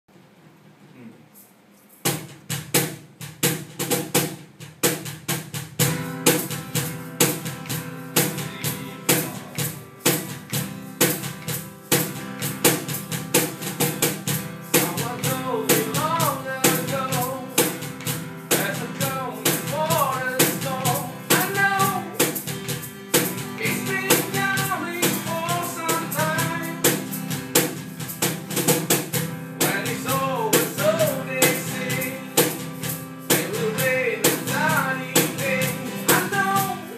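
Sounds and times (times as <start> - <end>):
drum kit: 1.9 - 36.9
bass and guitar: 5.8 - 36.9.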